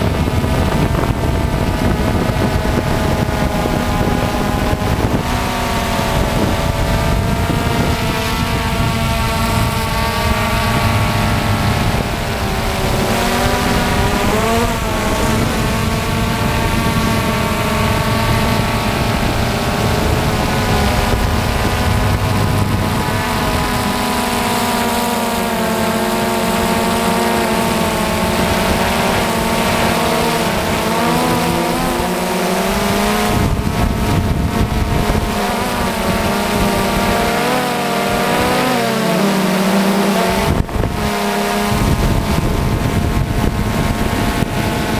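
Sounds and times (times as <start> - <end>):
drone propellers buzzing: 0.0 - 44.9
wind rumble on microphone: 0.0 - 44.9.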